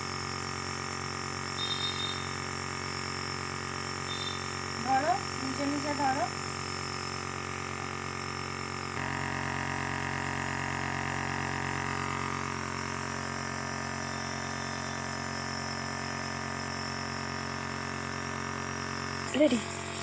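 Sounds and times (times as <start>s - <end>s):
nebulizer buzzing hum: 0.0s - 20.0s.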